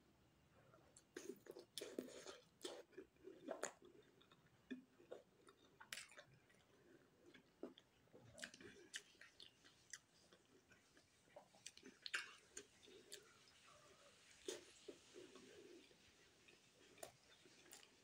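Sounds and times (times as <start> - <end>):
person chewing food: 1.0 - 18.0.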